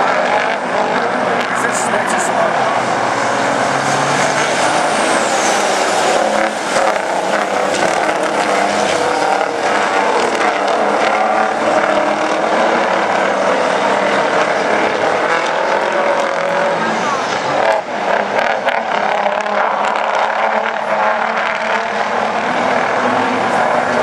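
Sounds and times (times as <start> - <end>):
race truck engines: 0.0 - 24.0.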